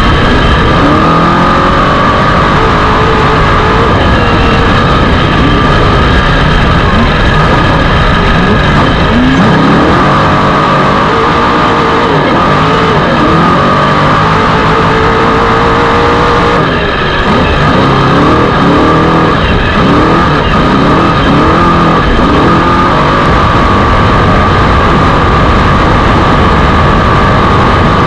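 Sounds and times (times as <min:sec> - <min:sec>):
loud steady noise: 0:00.0 - 0:28.0
race car engine revving: 0:00.0 - 0:28.0.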